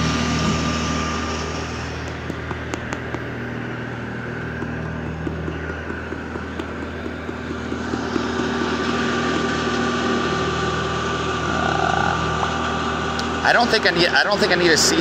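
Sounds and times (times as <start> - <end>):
engine idling with whine: 0.0 - 15.0.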